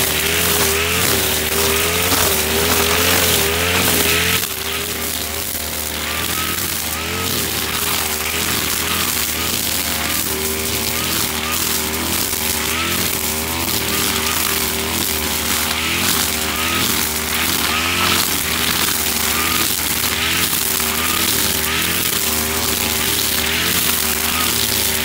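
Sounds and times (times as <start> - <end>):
brush cutter engine revving: 0.0 - 25.0
spinning line cutting grass: 0.0 - 25.0.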